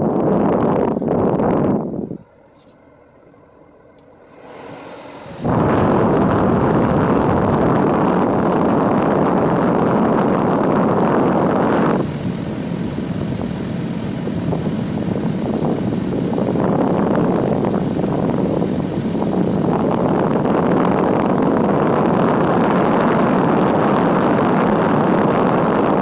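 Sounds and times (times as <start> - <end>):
car air conditioning blower: 0.0 - 26.0.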